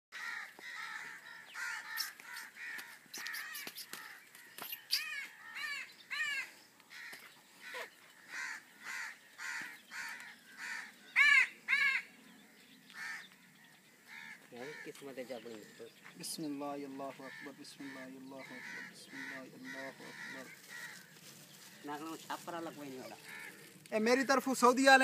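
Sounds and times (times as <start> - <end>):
crow cawing: 0.1 - 15.8, 16.9 - 23.9.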